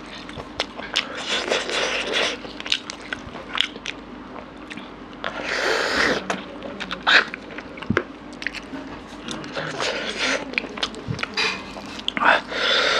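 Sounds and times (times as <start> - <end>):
chewing food: 0.0 - 12.9.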